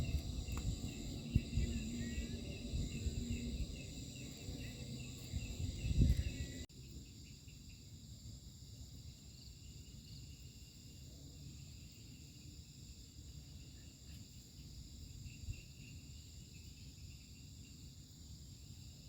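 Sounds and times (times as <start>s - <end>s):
night insects trilling: 0.0s - 19.0s
pulsing cricket chirp: 0.0s - 19.0s.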